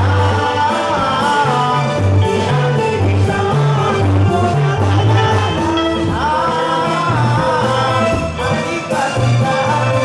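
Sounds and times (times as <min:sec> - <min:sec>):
band playing music: 0:00.0 - 0:10.0
person singing: 0:00.0 - 0:10.0.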